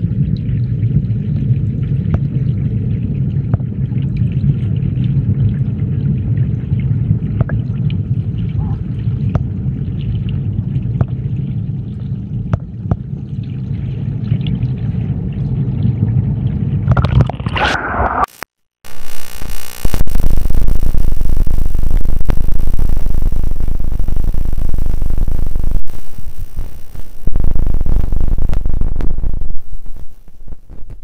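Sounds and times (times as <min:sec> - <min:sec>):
muffled underwater rumble: 0:00.0 - 0:18.3, 0:18.9 - 0:31.0.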